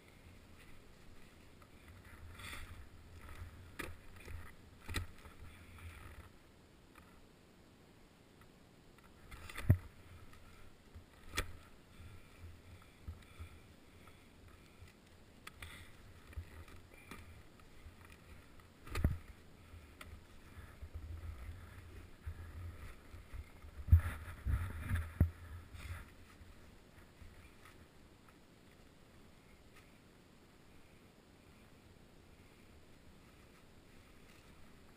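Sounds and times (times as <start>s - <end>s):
skis and poles shuffling in snow: 0.0s - 6.4s, 9.1s - 30.2s, 30.8s - 34.9s.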